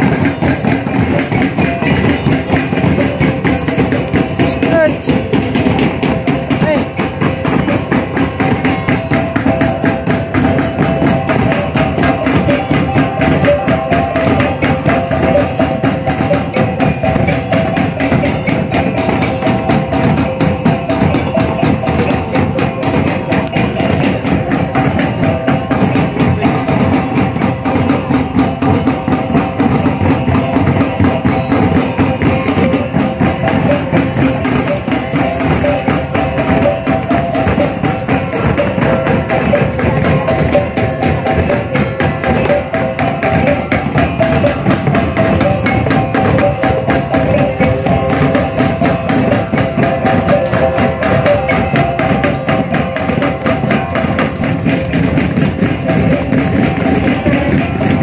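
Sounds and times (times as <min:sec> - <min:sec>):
barrel drums beating: 0:00.0 - 0:58.0
small gongs ringing a melody: 0:00.0 - 0:58.0.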